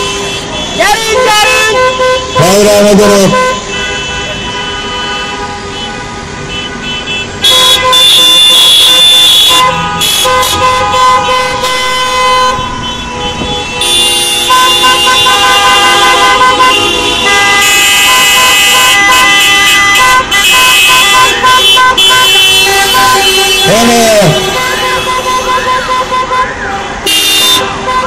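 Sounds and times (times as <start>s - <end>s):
many car horns honking: 0.0s - 28.0s.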